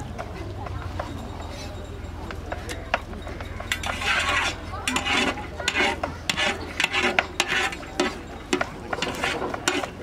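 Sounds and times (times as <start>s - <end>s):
utensil scraping a pot: 0.0s - 10.0s.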